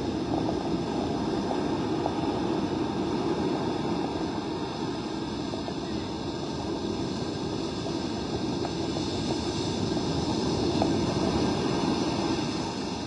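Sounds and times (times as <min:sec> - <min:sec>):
heavy surf: 0:00.0 - 0:13.0
wind: 0:00.0 - 0:13.0.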